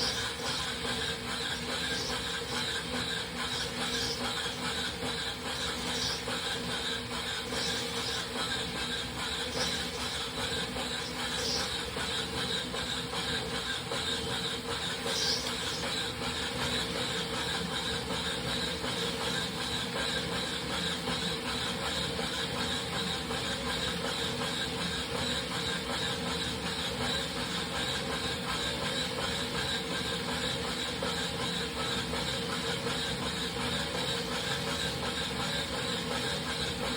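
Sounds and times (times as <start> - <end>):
rollers whirring: 0.0 - 36.9.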